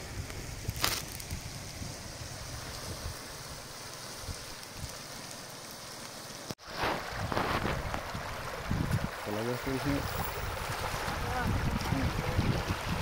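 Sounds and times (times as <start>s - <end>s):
river running over stones: 0.0s - 13.0s
feet splashing through water: 2.4s - 13.0s.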